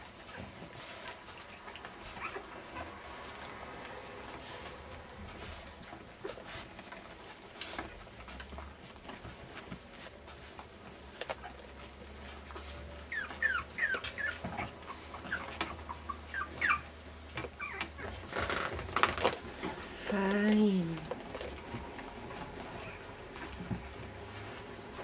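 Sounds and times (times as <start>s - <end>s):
puppies whimpering: 0.0s - 9.1s, 10.3s - 18.5s, 21.1s - 25.0s.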